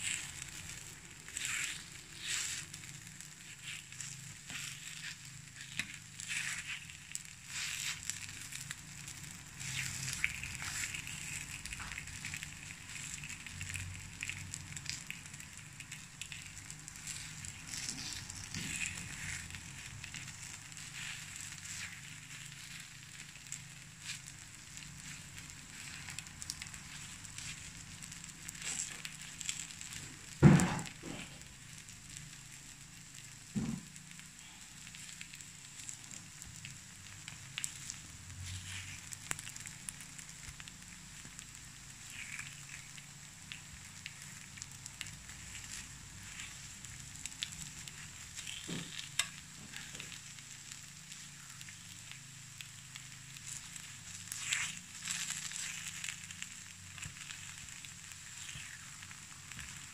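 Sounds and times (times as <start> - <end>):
batter sizzling on hot plate: 0.0 - 59.9
small crackling clicks: 0.0 - 59.9.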